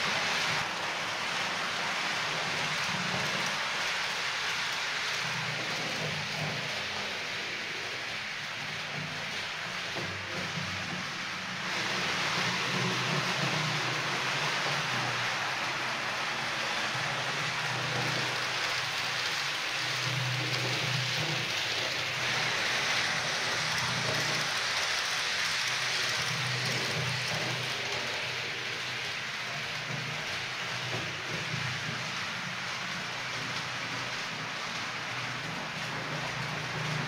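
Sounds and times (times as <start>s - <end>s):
model train wheels rattling: 1.6s - 37.0s.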